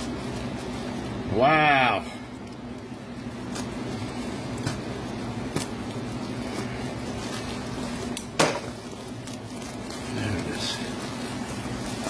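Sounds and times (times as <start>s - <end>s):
plastic wrapping crinkling and tearing: 0.0s - 12.0s
steady low hum: 0.0s - 12.0s.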